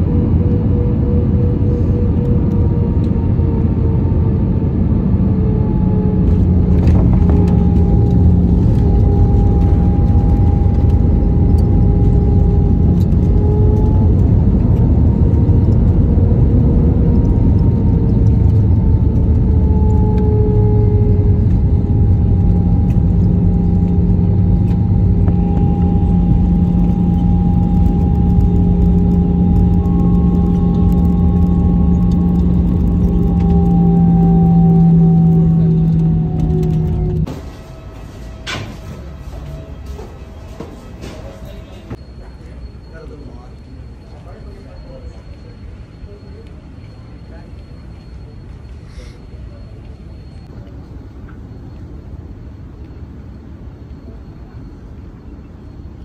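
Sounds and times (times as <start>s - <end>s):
airliner cabin engine hum: 0.0s - 56.0s.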